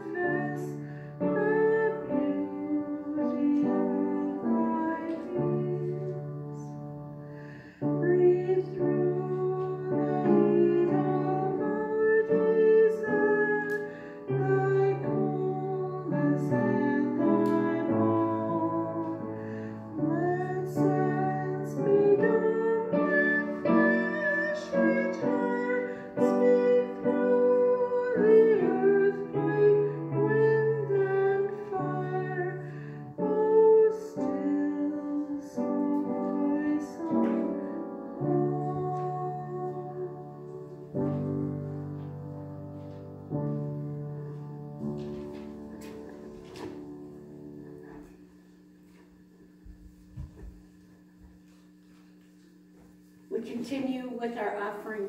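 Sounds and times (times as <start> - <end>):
slow church music: 0.0 - 55.0.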